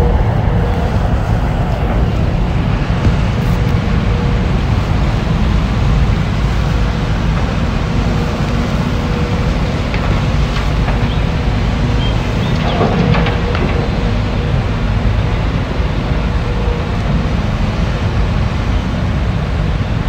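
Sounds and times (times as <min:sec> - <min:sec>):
diesel engine rumbling: 0:00.0 - 0:20.0
wind buffeting microphone: 0:00.0 - 0:20.0.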